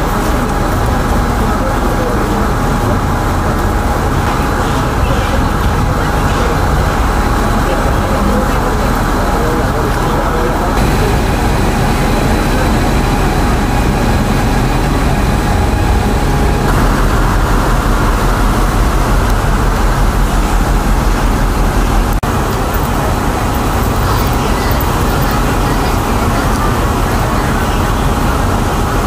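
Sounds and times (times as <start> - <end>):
loud traffic noise: 0.0 - 29.0.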